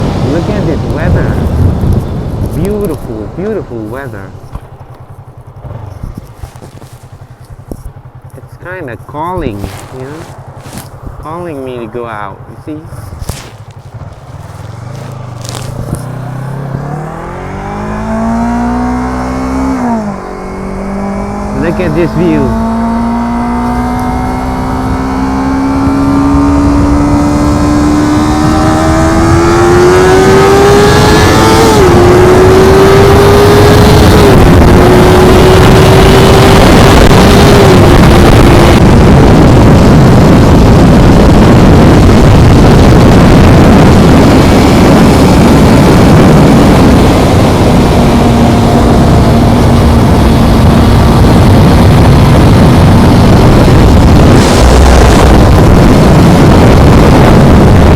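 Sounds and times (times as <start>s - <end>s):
wind noise on microphone: 0.0s - 8.3s, 9.0s - 12.0s, 12.8s - 57.9s
vehicle engine accelerating: 0.0s - 57.9s.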